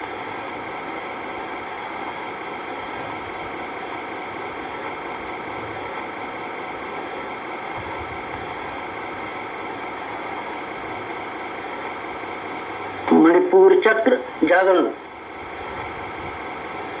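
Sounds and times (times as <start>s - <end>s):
steady background hum and hiss: 0.0s - 17.0s.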